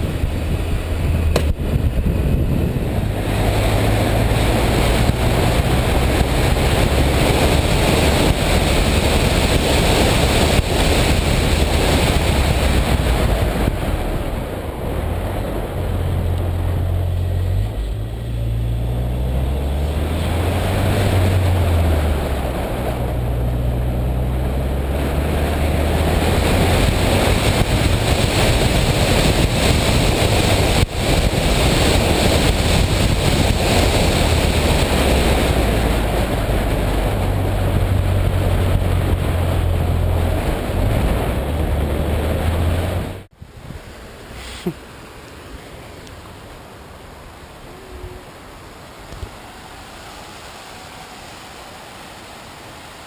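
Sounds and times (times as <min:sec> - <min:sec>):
small car engine humming: 0:00.0 - 0:43.3
wind and road noise: 0:00.0 - 0:53.0.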